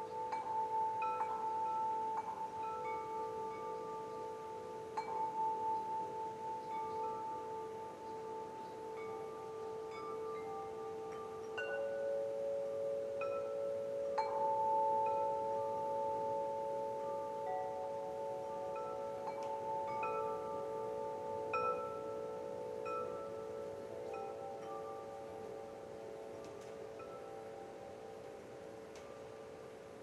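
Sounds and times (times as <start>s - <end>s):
wind chimes ringing: 0.0s - 30.0s.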